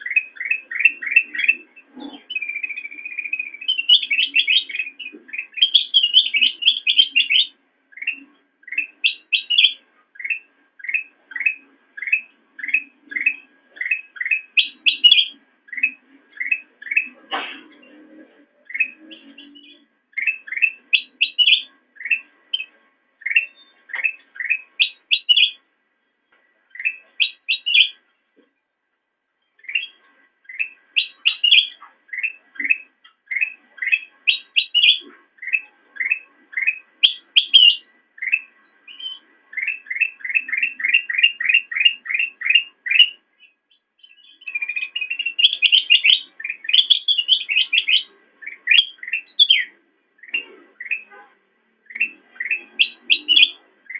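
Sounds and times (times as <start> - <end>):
bulbul chirping song: 0.0 - 28.5, 29.4 - 53.9.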